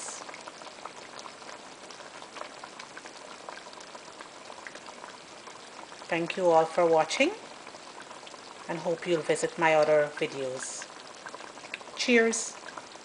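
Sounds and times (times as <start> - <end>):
thick sauce bubbling and popping: 0.0 - 13.0.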